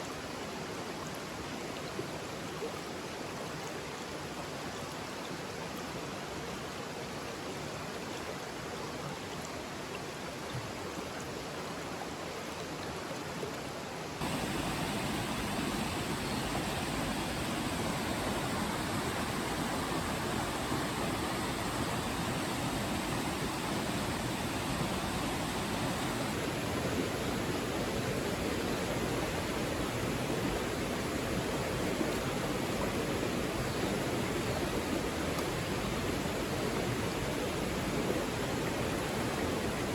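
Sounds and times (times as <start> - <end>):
rushing mountain stream: 0.0 - 39.9.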